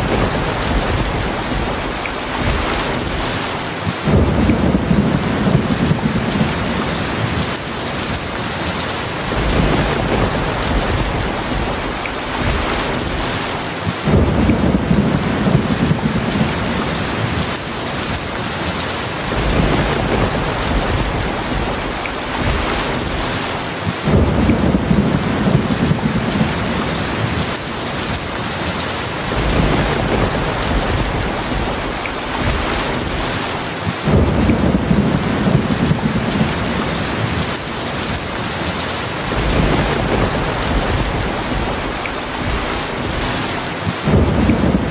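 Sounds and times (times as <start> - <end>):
low thunder rumbling: 0.0 - 3.4, 4.0 - 13.4, 14.0 - 23.4, 24.0 - 33.4, 34.0 - 44.9
heavy rain falling: 0.0 - 44.9.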